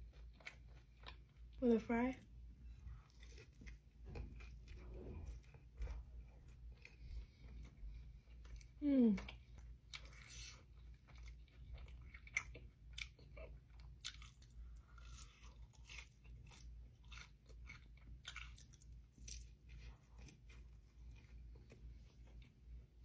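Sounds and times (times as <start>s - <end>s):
chewing crunchy fried food: 0.0s - 23.0s
faint low hum: 0.0s - 23.0s.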